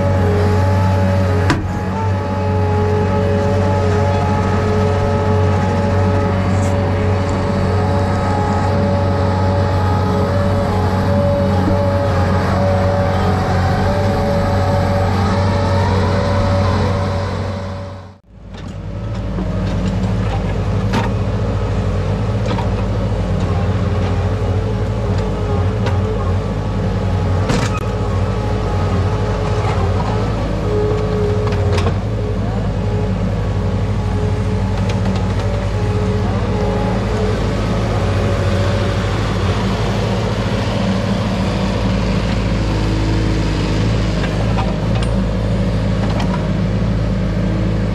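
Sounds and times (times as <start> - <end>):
heavy machinery engine running: 0.0 - 47.9.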